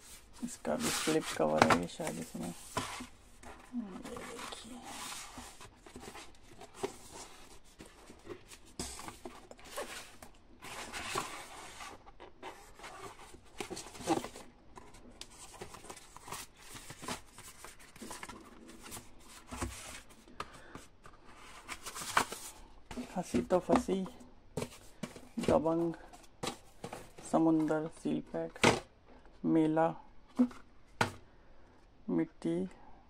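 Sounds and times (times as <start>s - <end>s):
cardboard packaging rustling: 0.0s - 27.7s.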